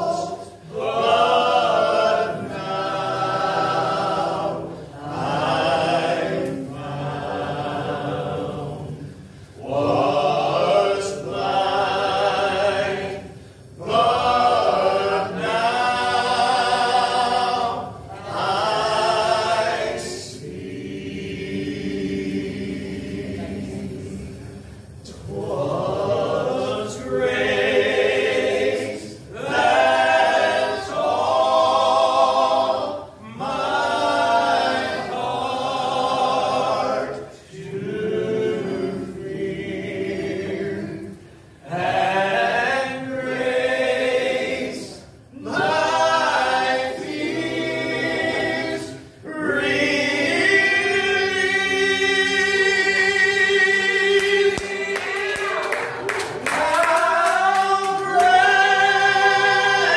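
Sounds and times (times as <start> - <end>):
men singing gospel in harmony: 0.0 - 24.0, 25.1 - 55.8, 56.4 - 59.9.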